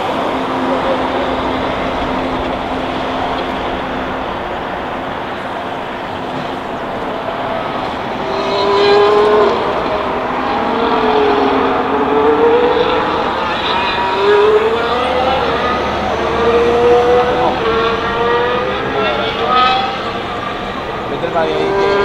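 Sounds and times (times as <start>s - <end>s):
racing car engine: 0.0s - 22.0s.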